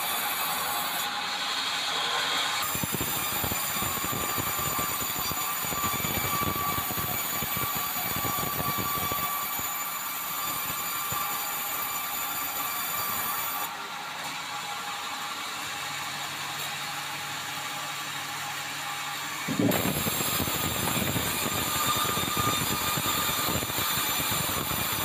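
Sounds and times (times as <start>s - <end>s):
band saw cutting wood: 0.0s - 25.0s.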